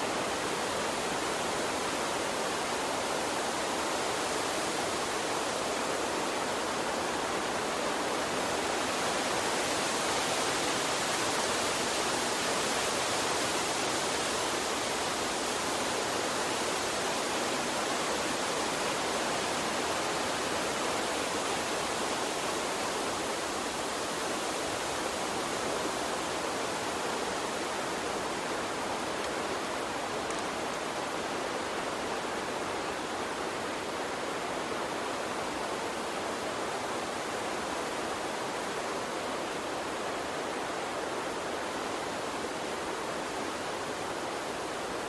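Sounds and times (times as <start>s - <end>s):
water stream flowing: 0.0s - 45.0s.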